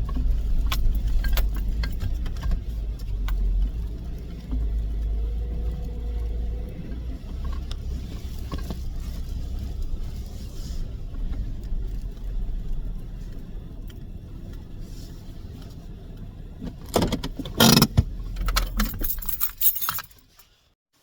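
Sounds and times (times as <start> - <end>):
car rumble from inside: 0.0 - 19.6.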